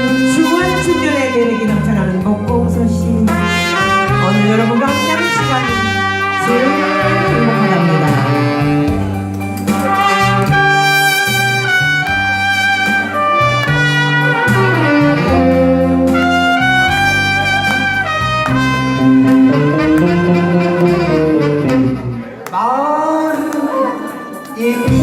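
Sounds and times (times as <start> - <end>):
bass line: 0.0 - 24.1
brass melody with backing: 0.0 - 25.0.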